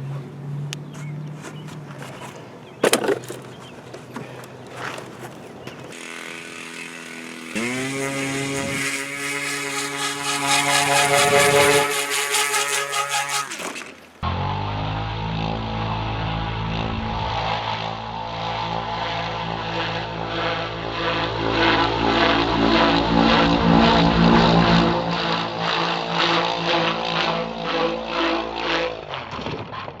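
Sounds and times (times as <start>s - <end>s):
model helicopter engine running: 1.0s - 29.7s.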